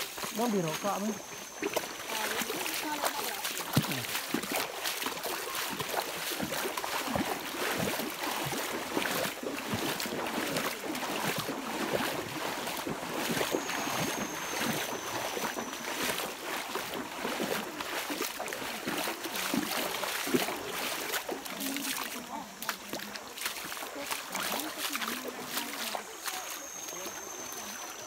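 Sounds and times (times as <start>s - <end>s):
footsteps wading through stream: 0.0s - 28.0s
water splashing and sloshing: 0.0s - 28.0s.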